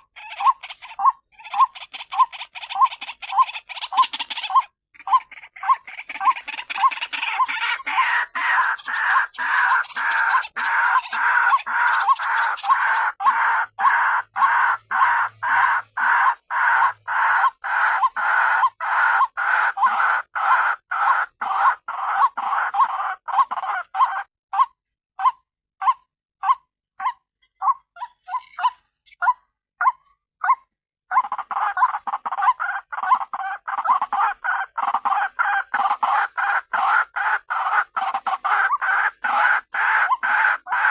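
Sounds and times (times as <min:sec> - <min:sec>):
waterhen calling harsh notes: 0:00.0 - 0:24.3, 0:31.1 - 0:40.9.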